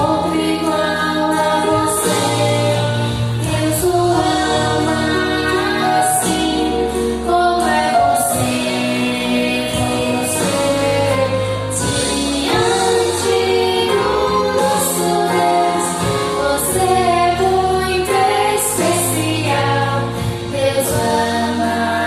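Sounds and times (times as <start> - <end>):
choir singing held notes: 0.0 - 22.0
instrumental backing with bass line: 0.0 - 22.0.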